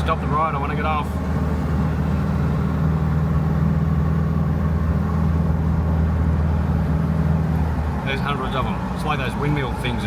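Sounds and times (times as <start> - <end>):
car cabin engine and tyre drone: 0.0 - 10.0.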